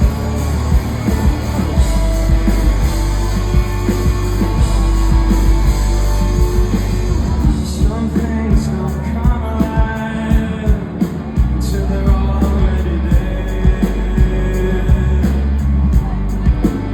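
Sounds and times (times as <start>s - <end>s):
rock band playing live: 0.0s - 16.9s.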